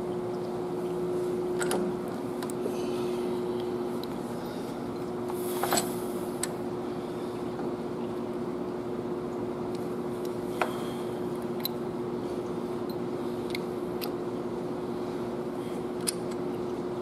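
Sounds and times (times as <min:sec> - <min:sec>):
steady shop hum: 0:00.0 - 0:17.0.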